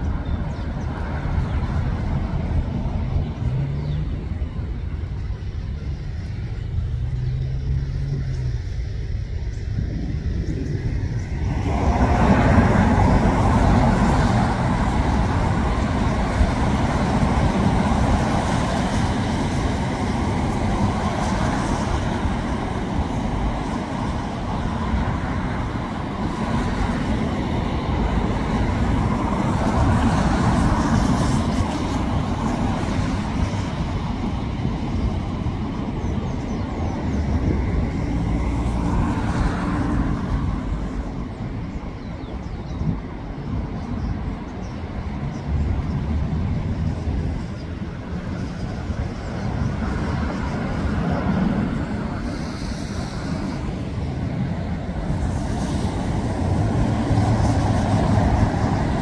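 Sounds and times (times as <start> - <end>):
cars passing close by: 0.0 - 59.0.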